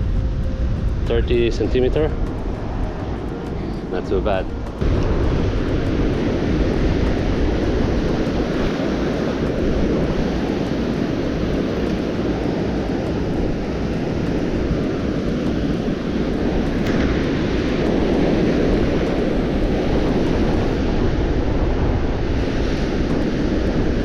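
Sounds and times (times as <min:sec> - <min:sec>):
surf on beach: 0:00.0 - 0:24.0
wind blowing across microphone: 0:00.0 - 0:24.0.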